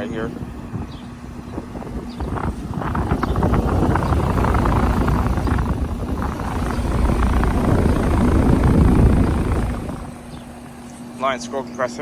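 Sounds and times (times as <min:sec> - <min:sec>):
air conditioner fan and compressor hum: 0:00.0 - 0:12.0.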